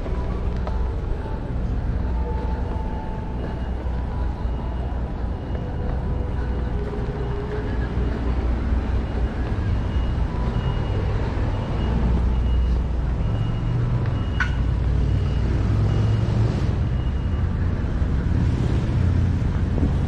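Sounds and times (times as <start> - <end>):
traffic rumble: 0.0 - 20.0
wind: 0.0 - 20.0.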